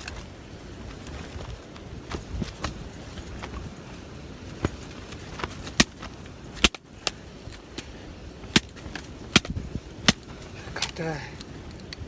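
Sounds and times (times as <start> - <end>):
steady wind noise: 0.0 - 12.0.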